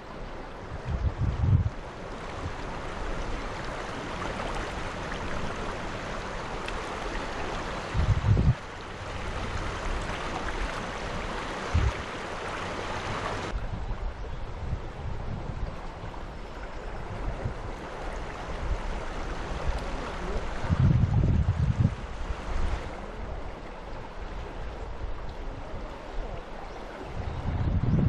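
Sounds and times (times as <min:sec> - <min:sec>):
river water rushing: 0:01.7 - 0:27.5.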